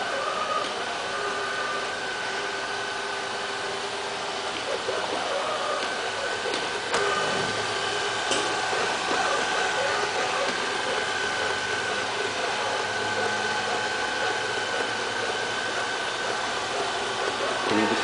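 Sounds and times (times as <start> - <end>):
robot vacuum cleaner humming: 0.0 - 18.0.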